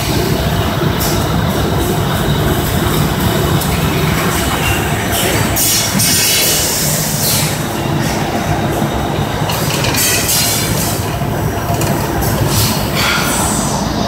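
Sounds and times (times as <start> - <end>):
machine metallic clatter and rumble: 0.0 - 14.0.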